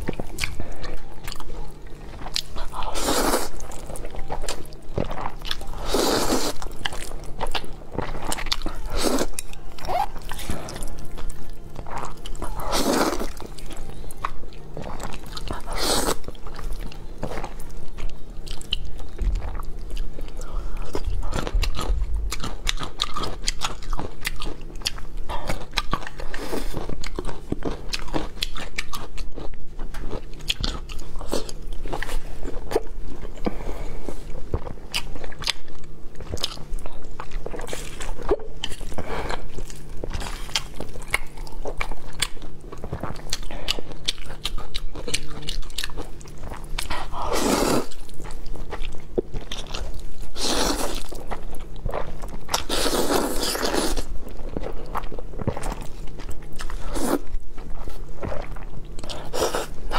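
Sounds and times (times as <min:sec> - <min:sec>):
chewing with wet mouth clicks: 0:00.0 - 0:02.8, 0:06.5 - 0:33.6, 0:34.5 - 0:59.8.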